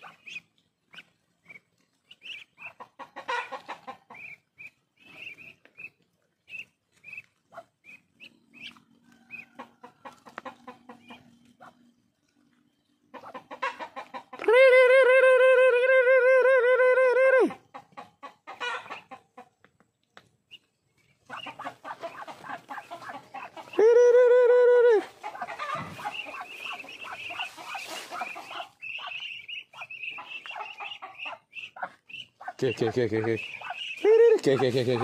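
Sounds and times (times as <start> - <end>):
poultry clucking: 0.0 - 14.7, 17.4 - 35.0.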